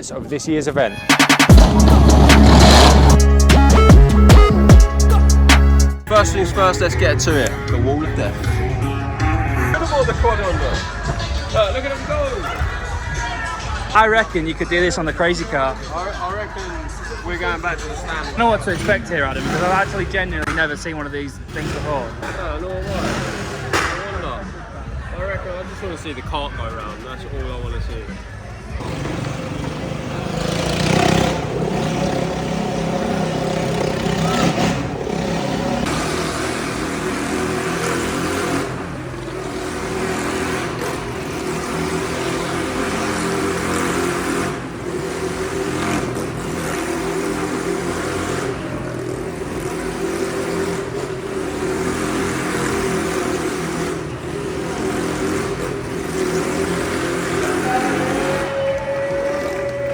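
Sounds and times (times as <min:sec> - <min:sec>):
vehicle engines revving: 0:00.0 - 0:59.9.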